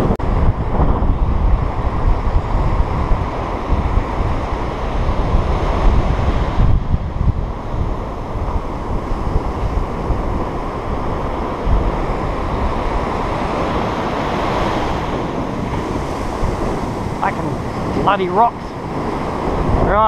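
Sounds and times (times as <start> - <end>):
wind buffeting microphone: 0.0 - 20.0
surf breaking: 0.8 - 20.0.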